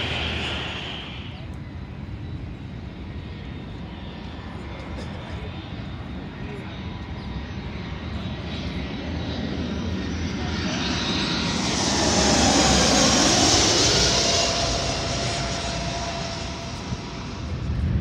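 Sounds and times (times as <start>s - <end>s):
jet plane passing overhead: 0.0s - 18.0s.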